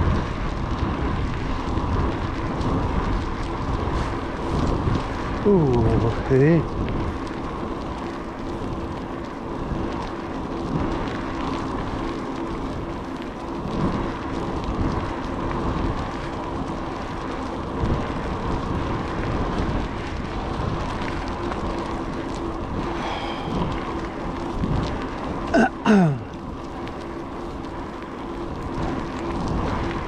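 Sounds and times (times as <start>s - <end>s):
faint constant hum: 0.0s - 30.0s
wind and road noise: 0.0s - 30.0s.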